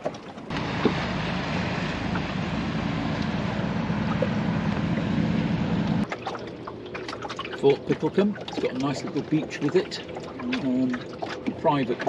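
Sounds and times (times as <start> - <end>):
wind and water rushing: 0.0 - 12.0
boat engine drone: 0.1 - 12.0.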